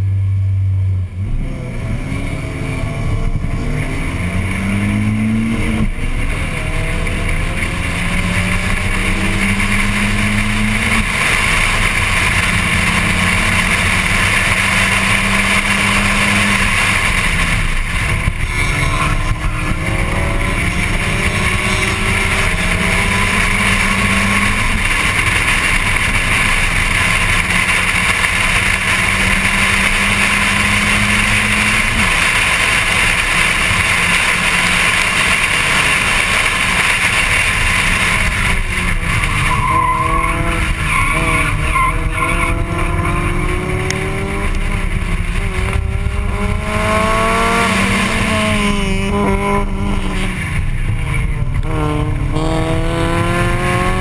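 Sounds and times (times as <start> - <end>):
racing car engine accelerating: 0.0 - 54.0
wind and road noise: 0.0 - 54.0.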